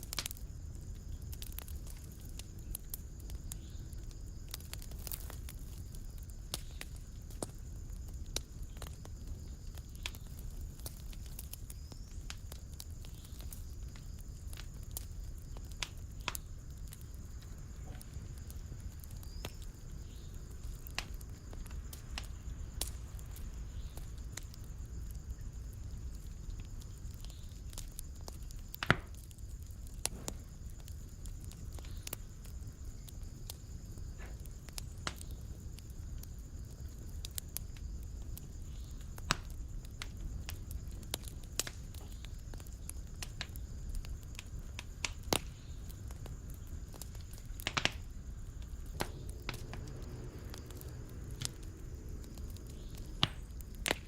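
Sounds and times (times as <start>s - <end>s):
wood fire crackling in a fireplace: 0.0s - 54.0s.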